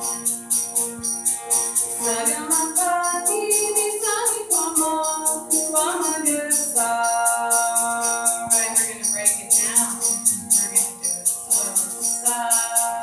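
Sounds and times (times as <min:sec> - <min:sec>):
jingling tambourine beat: 0:00.0 - 0:13.0
sitar band playing: 0:00.0 - 0:13.0
people singing: 0:01.9 - 0:10.9, 0:11.5 - 0:13.0.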